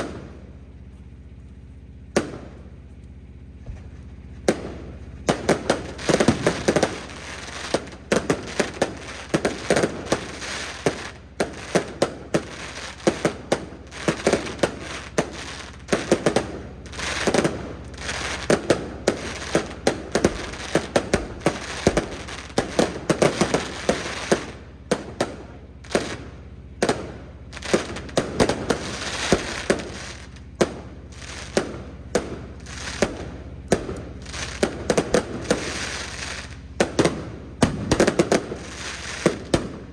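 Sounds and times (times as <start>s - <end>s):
fireworks bangs: 0.0s - 0.8s, 2.0s - 39.9s.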